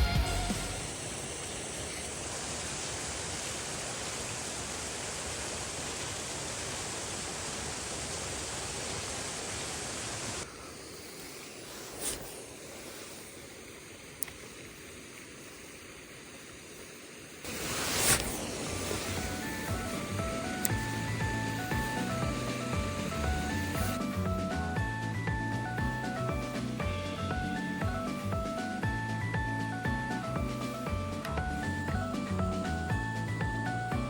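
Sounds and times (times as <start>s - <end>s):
steady rushing outdoor noise: 0.0s - 34.0s.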